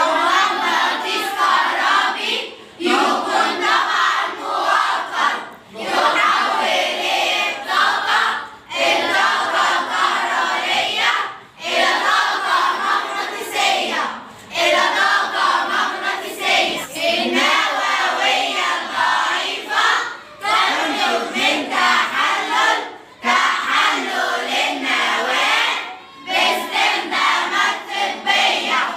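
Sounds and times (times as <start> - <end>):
girls singing in unison: 0.0 - 28.9.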